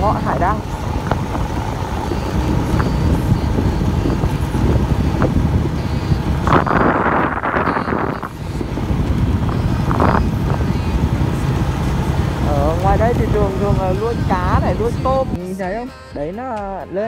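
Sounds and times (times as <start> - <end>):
wind buffeting microphone: 0.0 - 15.4.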